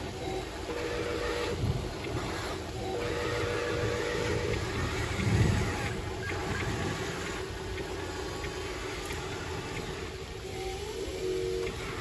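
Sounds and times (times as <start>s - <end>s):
toy electric motors whining: 0.0s - 12.0s.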